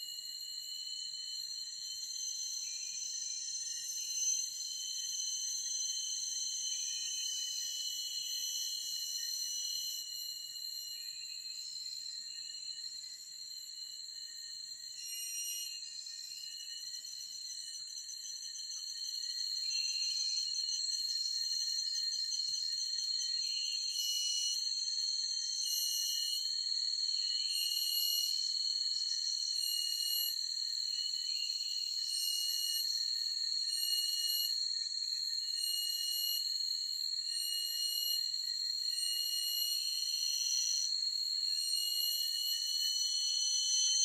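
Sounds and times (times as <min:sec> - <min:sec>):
insects droning: 0:00.0 - 0:44.0
shrill insect trilling: 0:00.0 - 0:44.0.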